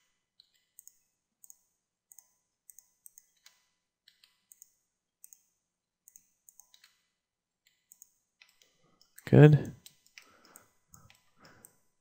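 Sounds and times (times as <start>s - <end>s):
computer mouse and keys clicking: 0.0s - 12.0s.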